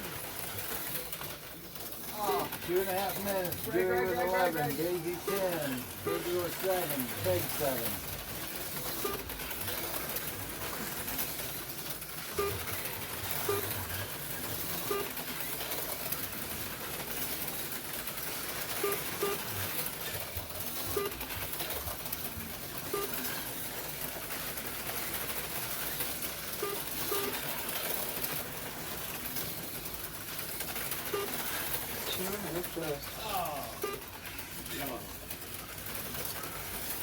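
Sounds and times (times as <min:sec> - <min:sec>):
slot cars whirring: 0:00.0 - 0:37.0.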